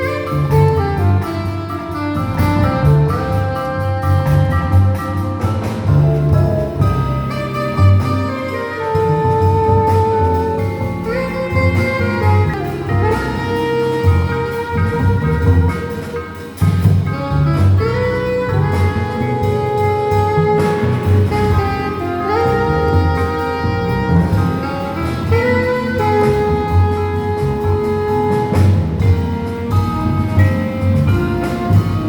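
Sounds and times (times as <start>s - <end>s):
jazz band playing: 0.0s - 32.0s.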